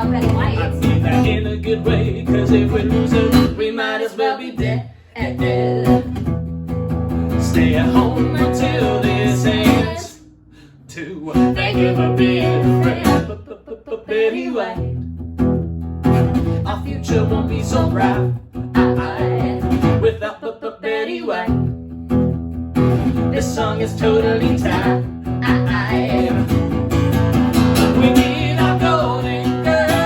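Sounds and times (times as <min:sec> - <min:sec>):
guitar music: 0:00.0 - 0:03.6, 0:05.2 - 0:13.4, 0:14.6 - 0:20.1, 0:21.5 - 0:30.0
bass: 0:00.0 - 0:03.7, 0:04.6 - 0:20.2, 0:21.4 - 0:30.0.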